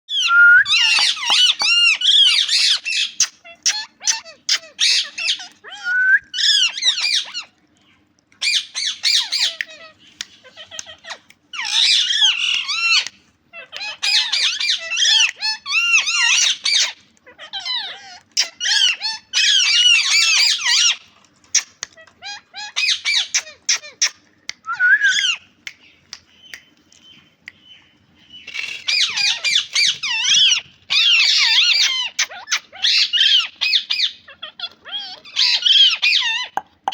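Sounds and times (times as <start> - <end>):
parrot squawking and chattering: 0.1 - 7.6, 8.4 - 25.7, 28.4 - 36.9.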